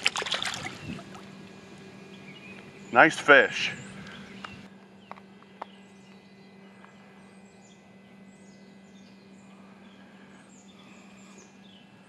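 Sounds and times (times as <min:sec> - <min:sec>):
birds chirping: 0:00.0 - 0:12.0
faint low hum: 0:00.0 - 0:12.0.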